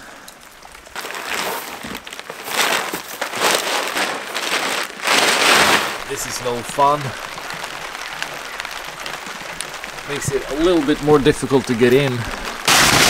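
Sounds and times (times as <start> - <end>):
plastic tarpaulin rustling: 0.0 - 13.0.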